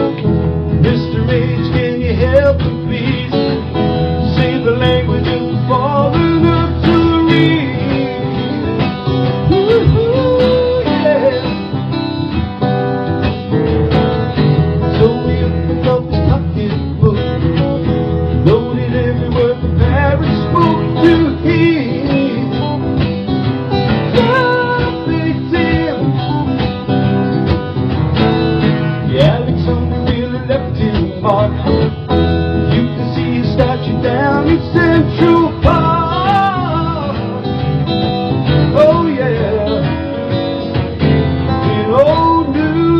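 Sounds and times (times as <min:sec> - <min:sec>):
live folk band playing: 0:00.0 - 0:42.9
melodic lead line: 0:00.0 - 0:42.9
plucked acoustic guitar: 0:00.0 - 0:42.9.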